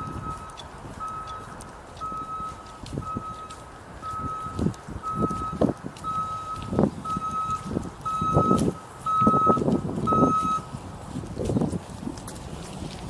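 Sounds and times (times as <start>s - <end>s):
electronic crossing bell beeping: 0.0s - 10.7s.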